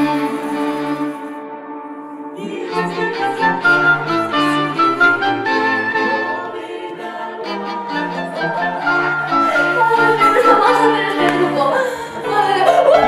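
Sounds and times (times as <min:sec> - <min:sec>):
string ensemble playing classical piece: 0:00.0 - 0:13.0.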